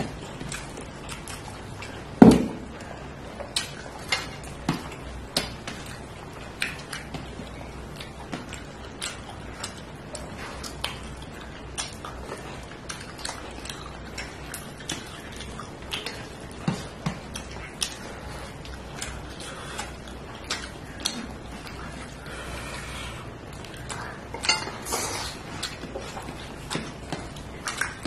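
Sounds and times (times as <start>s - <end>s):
low steady hum: 0.0s - 28.0s
person chewing and lip smacking: 0.0s - 28.0s.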